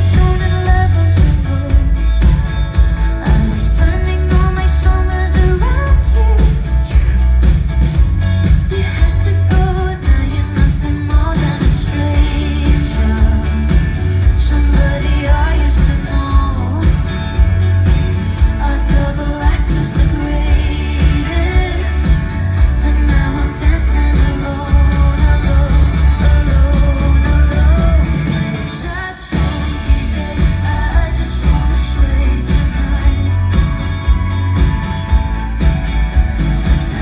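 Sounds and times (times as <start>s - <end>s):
woman singing: 0.0s - 7.5s, 8.4s - 37.0s
live pop band with bass and drums: 0.0s - 37.0s.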